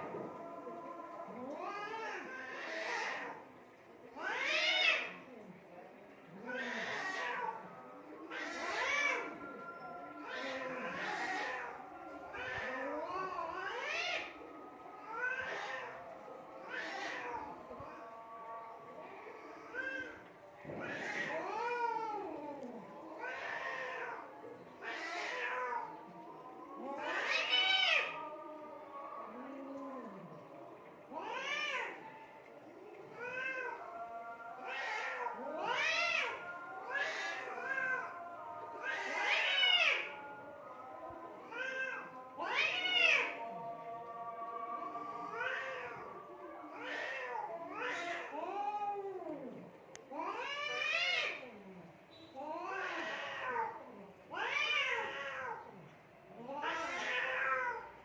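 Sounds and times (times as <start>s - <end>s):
cats yowling: 0.0s - 58.0s.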